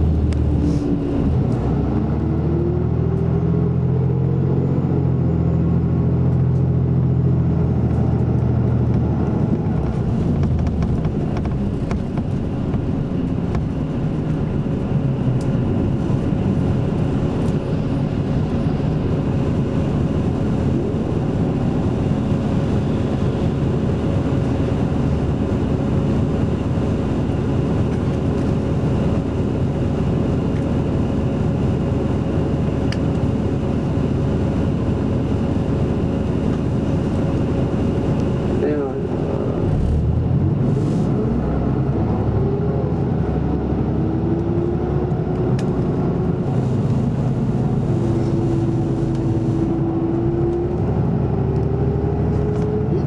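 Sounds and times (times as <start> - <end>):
bus diesel engine drone: 0.0 - 53.0
bus rumbling along: 0.0 - 53.0.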